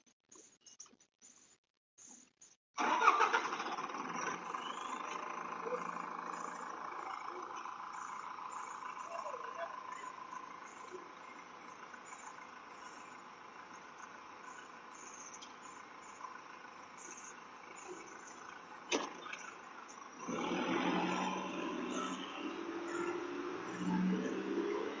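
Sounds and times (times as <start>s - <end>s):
faint outdoor background: 0.0s - 25.0s
truck engine rumbling: 2.8s - 25.0s.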